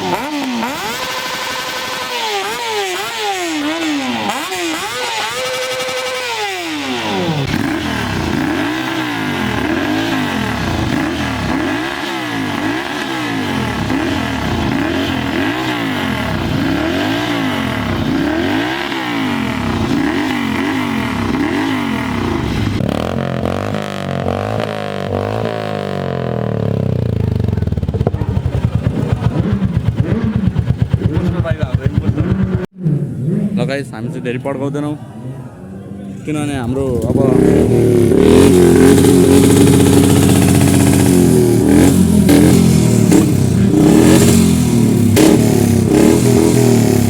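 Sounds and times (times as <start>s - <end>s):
motorcycle engine revving: 0.0s - 34.3s, 35.3s - 47.0s.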